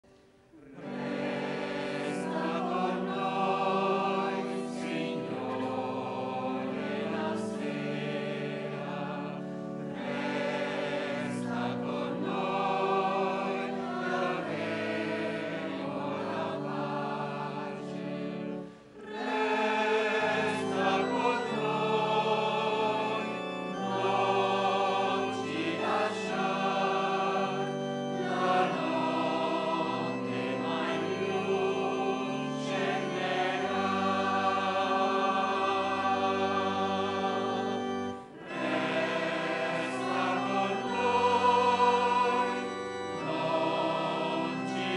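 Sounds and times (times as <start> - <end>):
choir singing a hymn: 0.4 - 44.9.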